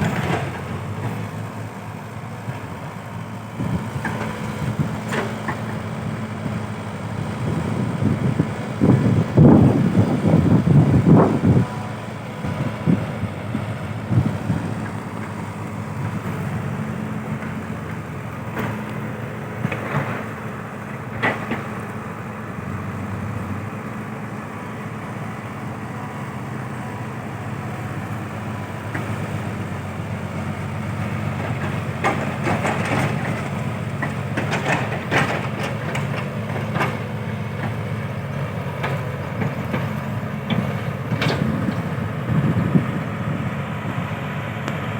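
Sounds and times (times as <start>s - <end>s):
low engine hum: 0.0s - 44.9s.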